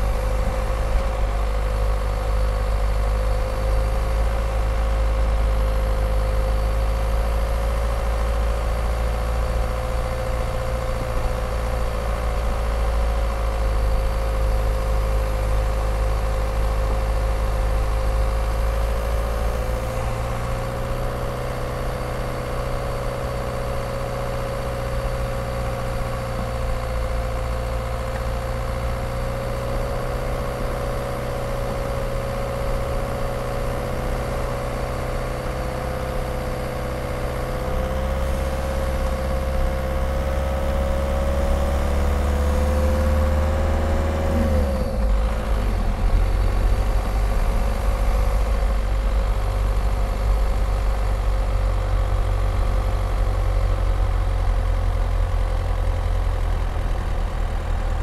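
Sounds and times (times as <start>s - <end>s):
diesel car engine running: 0.0s - 58.0s
low road rumble: 0.0s - 58.0s.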